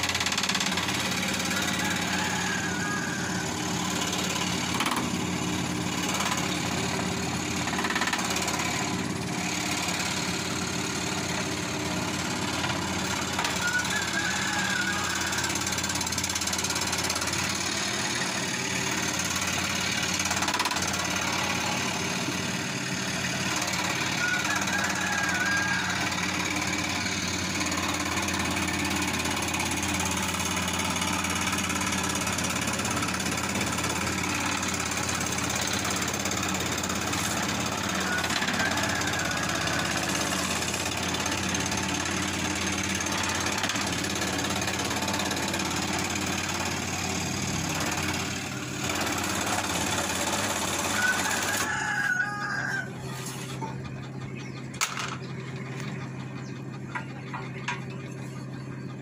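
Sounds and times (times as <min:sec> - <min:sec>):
scroll saw cutting wood: 0:00.0 - 0:53.8.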